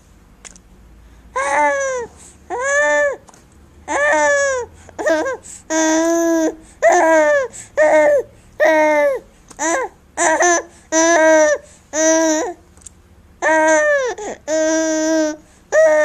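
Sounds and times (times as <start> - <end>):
baby laughing and squealing: 1.4 - 3.2, 3.9 - 12.6, 13.4 - 16.0.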